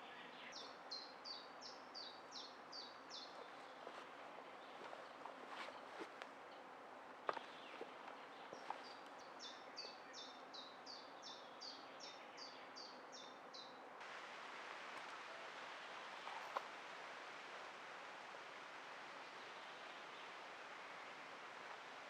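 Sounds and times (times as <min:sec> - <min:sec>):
songbird singing: 0:00.0 - 0:22.0
steady outdoor hiss: 0:00.0 - 0:22.0.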